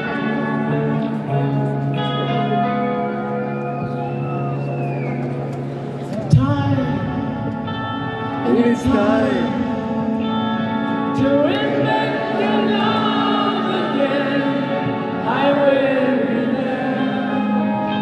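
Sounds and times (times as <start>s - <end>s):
live rock music with singing: 0.0s - 18.0s.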